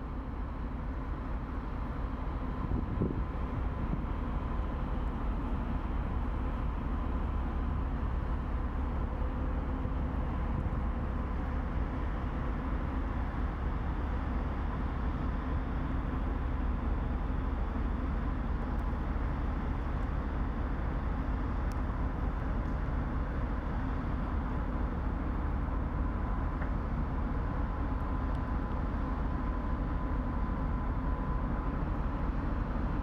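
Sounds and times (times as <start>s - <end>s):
ship engine rumble: 0.0s - 33.0s.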